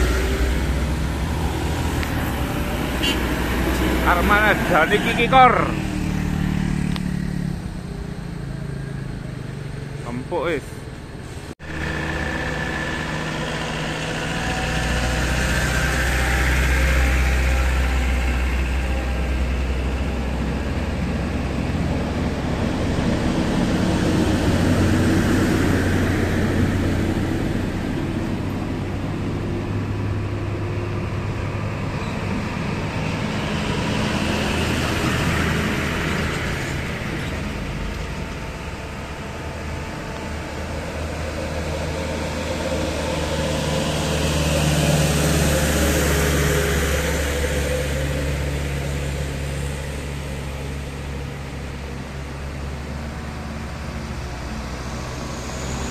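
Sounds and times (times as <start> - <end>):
heavy truck engines idling: 0.0 - 55.9.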